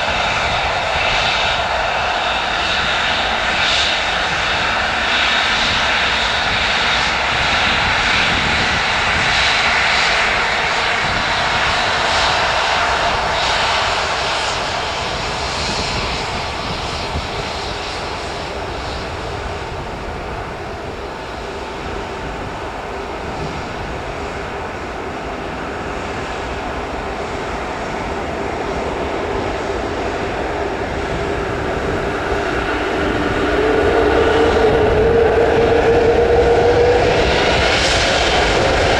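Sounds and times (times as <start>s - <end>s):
jet engines rushing: 0.0s - 38.9s
steady engine whine: 0.0s - 38.9s.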